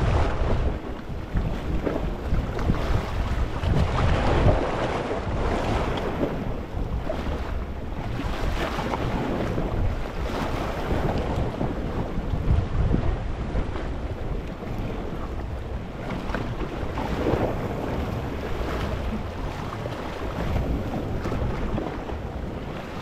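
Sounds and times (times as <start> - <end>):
waves washing over rocks: 0.0 - 23.0
wind rumble on microphone: 0.0 - 23.0.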